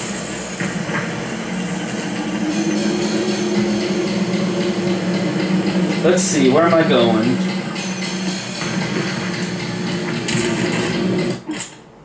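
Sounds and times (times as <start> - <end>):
low droning game ambience: 0.0 - 12.0.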